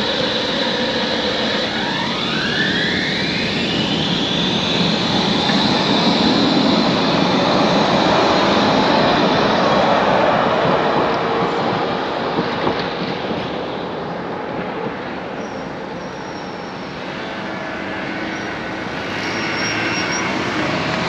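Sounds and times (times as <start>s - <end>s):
traffic noise: 0.0s - 21.0s
tram motor whine: 0.0s - 21.0s.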